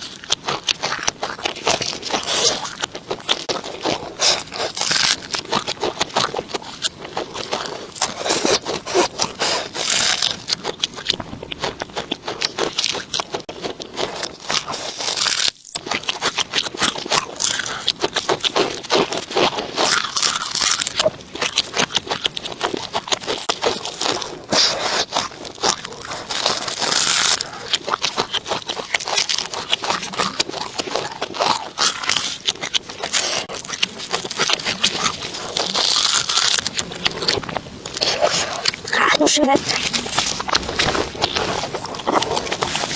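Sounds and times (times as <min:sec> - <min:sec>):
crunching and chewing food: 0:00.0 - 0:42.9.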